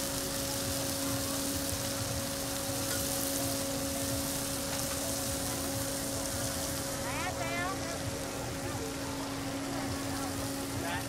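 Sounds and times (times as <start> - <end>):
food sizzling on griddle: 0.0 - 11.0.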